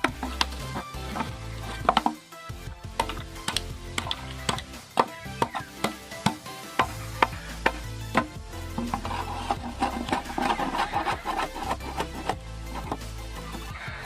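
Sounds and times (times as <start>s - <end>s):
blade scraping bamboo: 0.0s - 2.3s, 3.0s - 13.7s
background music with beat: 0.0s - 14.0s.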